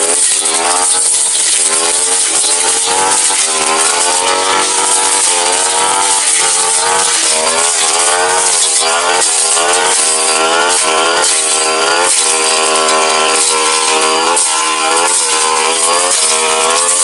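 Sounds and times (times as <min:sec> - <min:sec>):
brush cutter engine cutting brush: 0:00.0 - 0:17.0.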